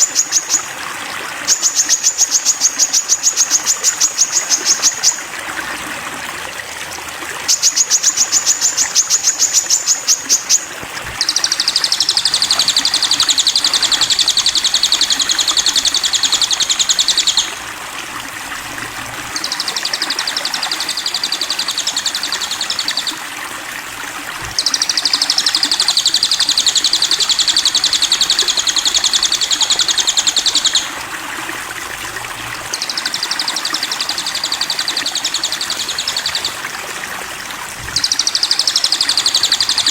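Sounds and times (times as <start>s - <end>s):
bird singing fast trills: 0.0s - 0.8s, 1.5s - 5.3s, 7.5s - 23.3s, 24.4s - 31.1s, 32.0s - 36.9s, 37.8s - 39.9s.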